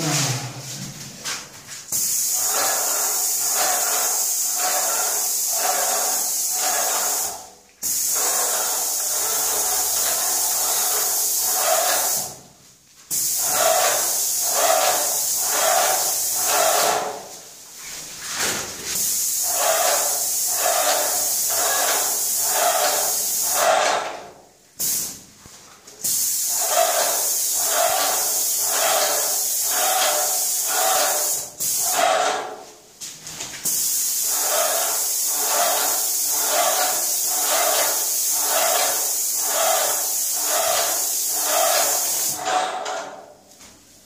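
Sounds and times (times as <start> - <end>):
paint sprayer hissing: 0.0 - 17.6, 18.3 - 24.1, 24.8 - 25.2, 26.0 - 32.6, 33.6 - 43.2.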